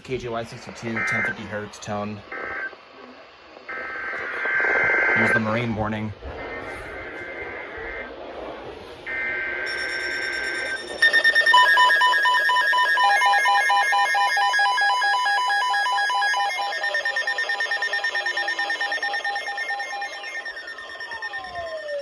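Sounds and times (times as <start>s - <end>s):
rapid electronic beeping: 0.0s - 22.0s
steady high tones: 0.0s - 22.0s.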